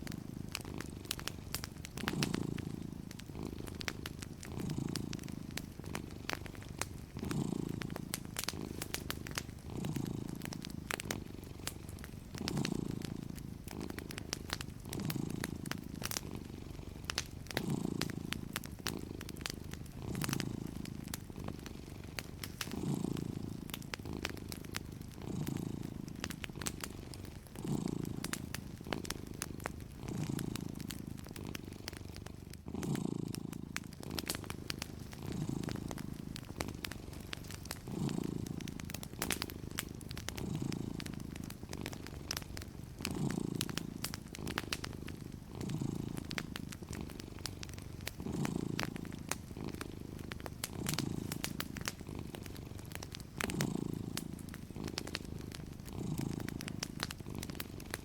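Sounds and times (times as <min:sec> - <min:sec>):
cat purring: 0:00.0 - 0:58.0
wood fire crackling: 0:00.0 - 0:58.0.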